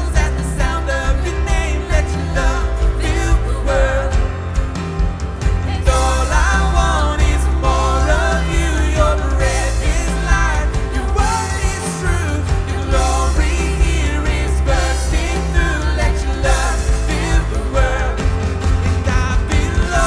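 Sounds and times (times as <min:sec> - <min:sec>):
people singing: 0:00.0 - 0:20.0
worship band playing live: 0:00.0 - 0:20.0.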